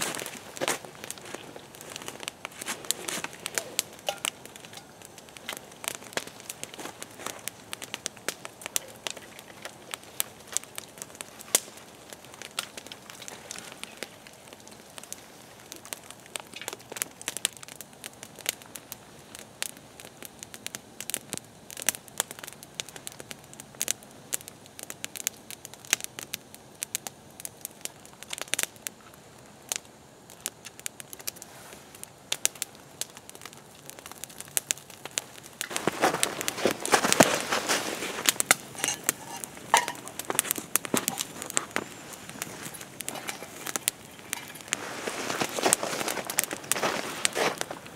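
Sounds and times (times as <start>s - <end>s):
campfire crackling and popping: 0.0s - 47.9s
loud steady hiss: 0.0s - 47.9s.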